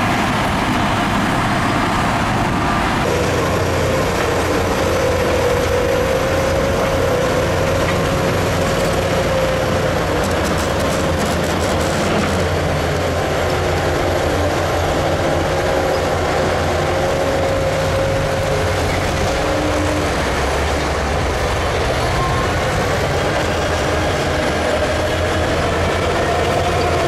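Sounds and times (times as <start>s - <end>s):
bulldozer diesel engine rumble: 0.0s - 27.0s.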